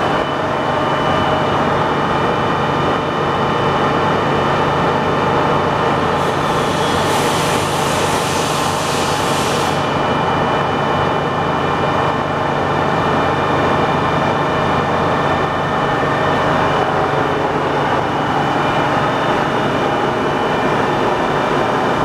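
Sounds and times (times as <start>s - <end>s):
lathe mechanical hum: 0.0s - 22.0s.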